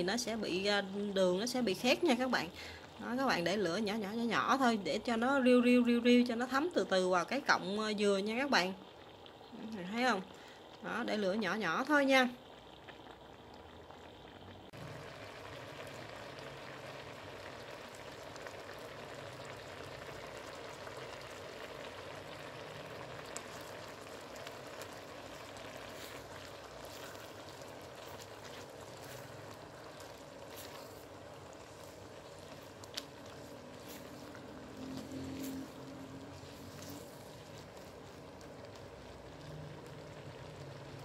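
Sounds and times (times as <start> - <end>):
syrup bubbling in a pan: 0.0 - 41.0.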